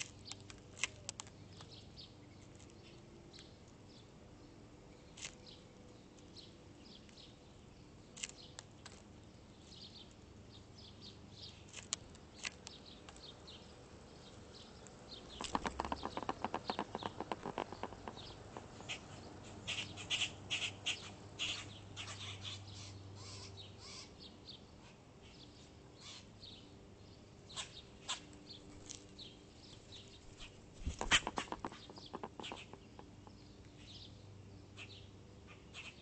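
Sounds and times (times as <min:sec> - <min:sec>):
songbirds chirping: 0:00.0 - 0:36.0.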